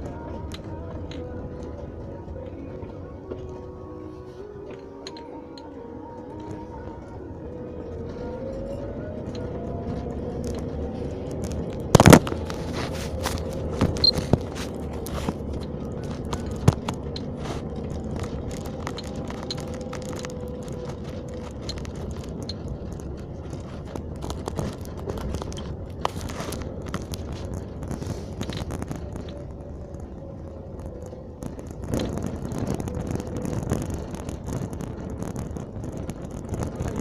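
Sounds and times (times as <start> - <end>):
car engine and road noise: 0.0 - 37.0.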